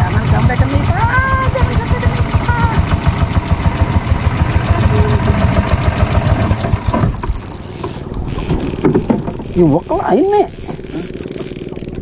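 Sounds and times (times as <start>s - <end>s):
boat motor throbbing: 0.0s - 12.0s.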